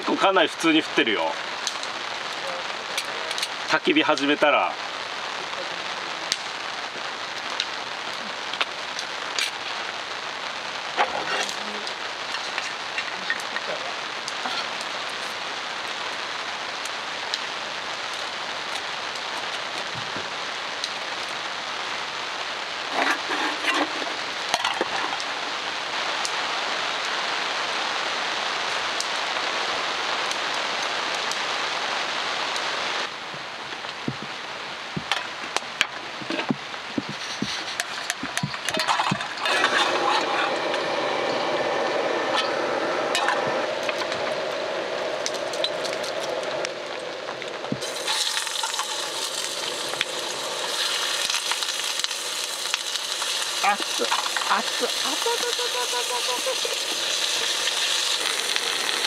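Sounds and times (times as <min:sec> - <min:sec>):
rain on tent tarp: 0:00.0 - 0:59.0.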